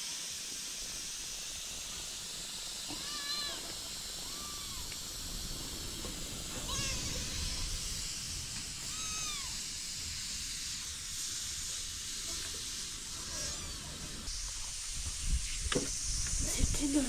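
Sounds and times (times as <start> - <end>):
food sizzling in a hot pan: 0.0 - 17.0.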